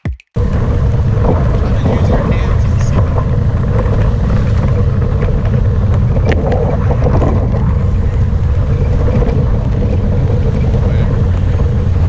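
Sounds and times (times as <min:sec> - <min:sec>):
motorbike engine running: 0:00.4 - 0:12.0
wind buffeting microphone: 0:00.4 - 0:12.0.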